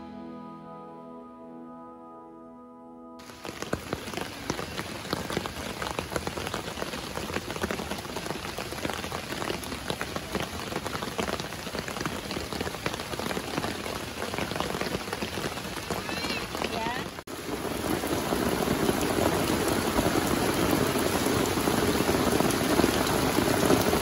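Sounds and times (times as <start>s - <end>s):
rain pattering on a tent: 3.2s - 24.0s.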